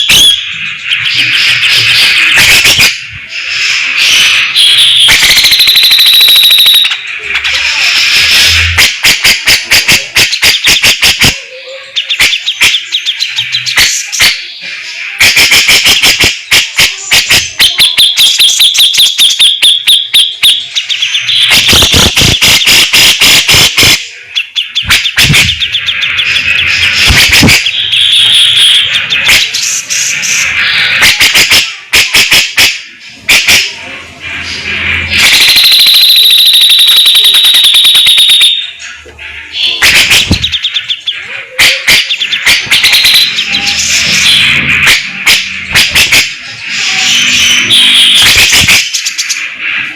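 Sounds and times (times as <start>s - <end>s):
high bird whistle: 0.0s - 49.4s
bulbul singing sharp stuttering notes: 0.0s - 49.9s.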